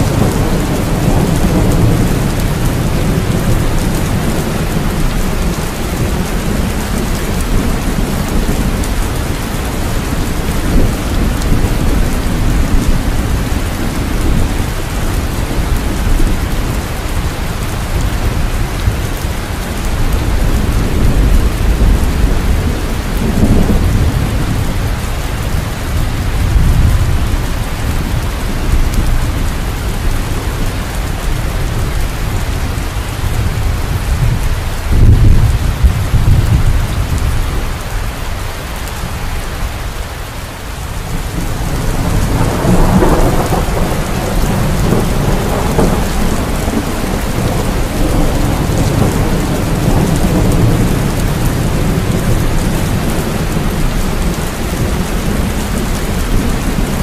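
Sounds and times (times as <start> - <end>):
thunder rumbling: 0.0 - 38.1, 40.9 - 57.0
heavy rain: 0.0 - 57.0.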